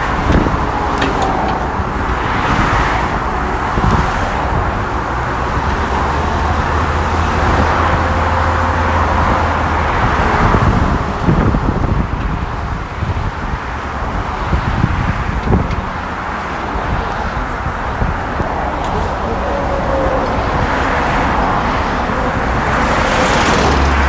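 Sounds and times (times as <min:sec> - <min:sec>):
low engine hum: 0:00.0 - 0:24.0
traffic rushing noise: 0:00.0 - 0:24.0.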